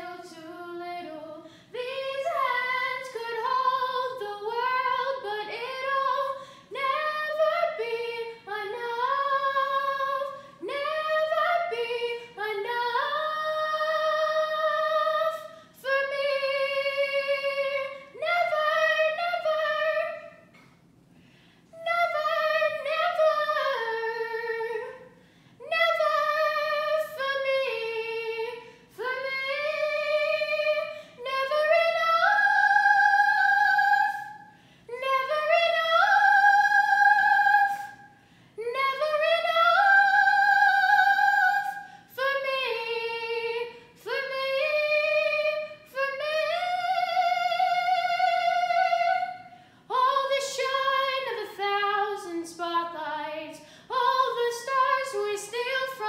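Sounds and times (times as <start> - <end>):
girl singing unaccompanied: 0.0 - 20.5, 21.8 - 56.0.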